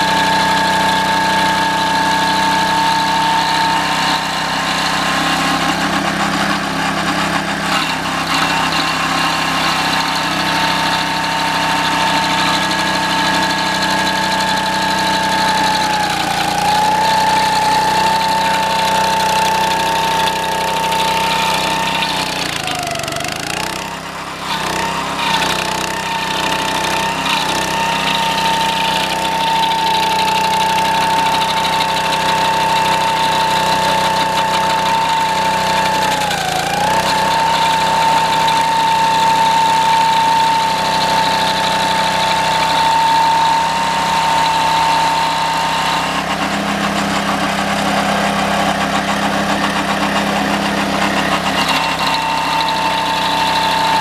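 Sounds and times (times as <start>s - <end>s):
stump grinder engine whining: 0.0s - 54.0s.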